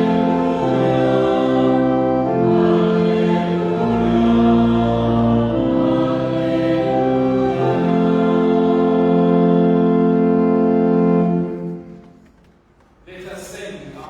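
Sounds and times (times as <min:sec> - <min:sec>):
congregation singing: 0:00.0 - 0:11.9
church organ playing chords: 0:00.0 - 0:12.1.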